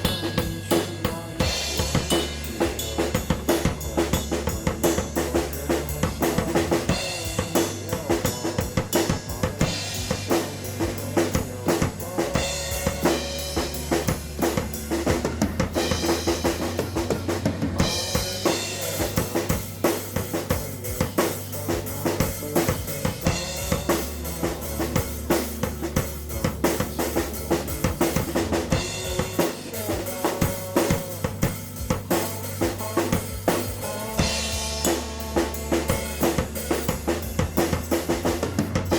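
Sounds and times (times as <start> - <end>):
instrumental rock music: 0.0 - 38.9.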